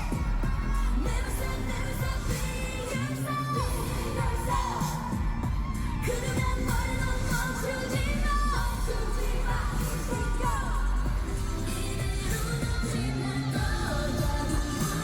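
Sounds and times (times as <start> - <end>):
pop backing track with heavy bass: 0.0 - 15.0
woman singing: 0.0 - 15.0.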